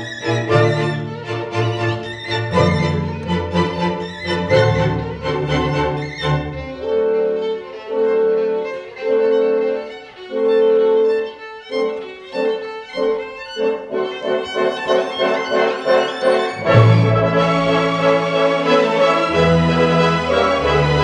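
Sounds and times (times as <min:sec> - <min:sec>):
solo violin: 0:00.0 - 0:21.0
string orchestra: 0:00.0 - 0:21.0.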